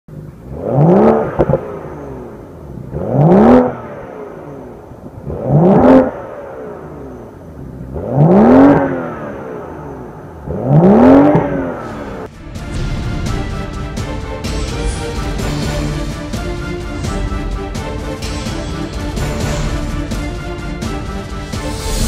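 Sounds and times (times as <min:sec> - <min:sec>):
car engine revving: 0:00.1 - 0:22.0.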